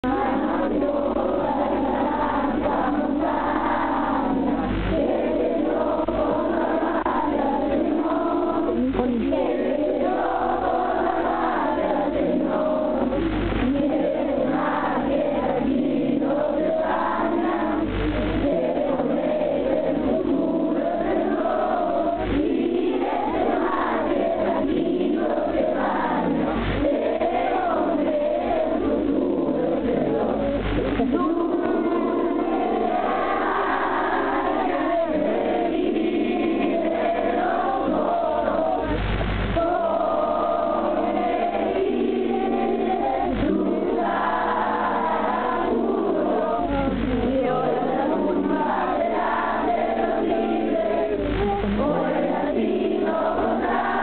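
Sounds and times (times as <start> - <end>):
group singing sustained notes: 0.0 - 54.0.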